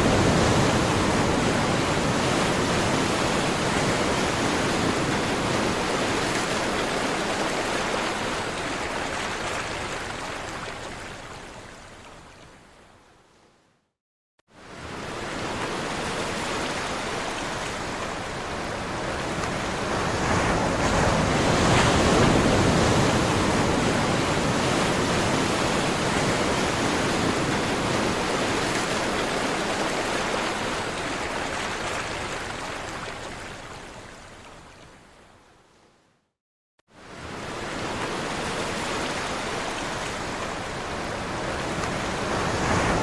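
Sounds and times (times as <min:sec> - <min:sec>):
ocean waves washing in: 0:00.0 - 0:12.0, 0:14.5 - 0:34.8, 0:36.9 - 0:43.0.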